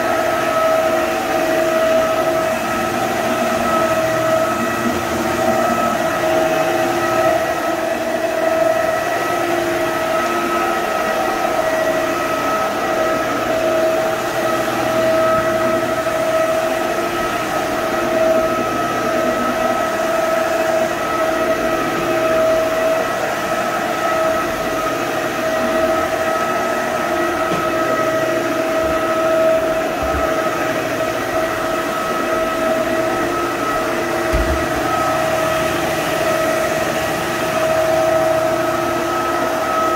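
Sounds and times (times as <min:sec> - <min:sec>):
floor scrubber motor whine: 0:00.0 - 0:39.9.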